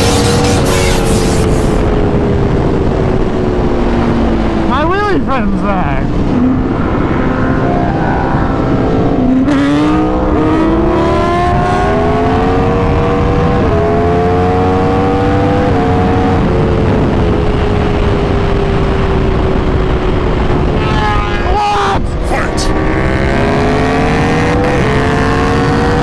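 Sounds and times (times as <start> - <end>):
motorcycle engine accelerating: 0.0 - 4.9, 6.0 - 21.5, 22.1 - 26.0
wind rush: 0.0 - 26.0.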